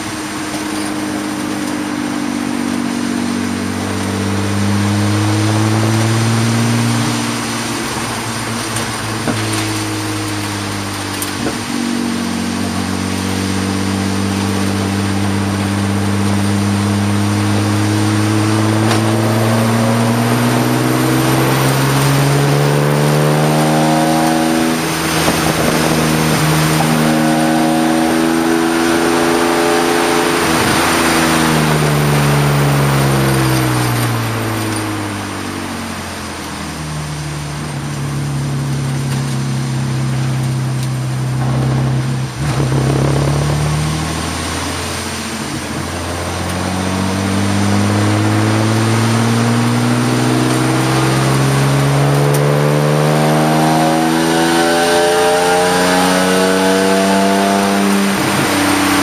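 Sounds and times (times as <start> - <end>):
race car engine accelerating: 0.0 - 59.0
wind and tyre noise: 0.0 - 59.0.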